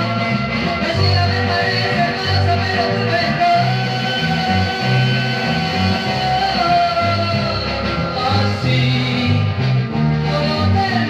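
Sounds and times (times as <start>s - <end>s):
garage rock song on vinyl: 0.0s - 11.0s.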